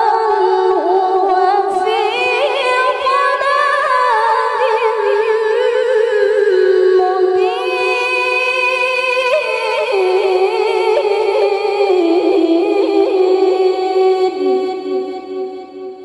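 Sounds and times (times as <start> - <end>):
woman reciting melodically: 0.0 - 15.8.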